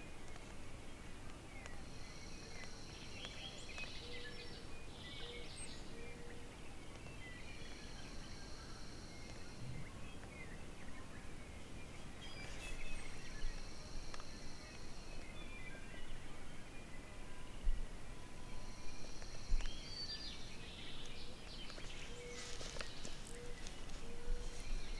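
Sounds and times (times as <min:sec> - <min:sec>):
outdoor background hiss: 0:00.0 - 0:24.9.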